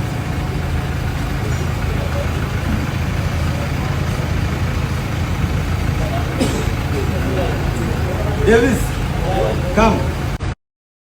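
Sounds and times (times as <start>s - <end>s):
faint voices: 0.0s - 10.4s
vehicle engine idling: 0.0s - 10.4s.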